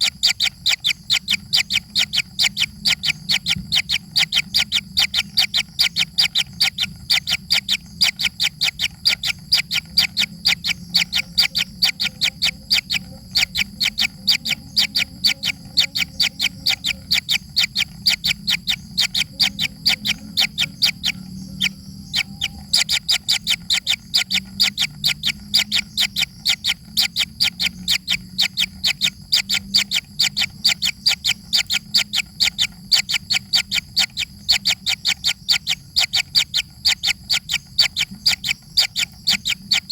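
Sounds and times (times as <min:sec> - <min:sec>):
chick chirping: 0:00.0 - 0:39.9.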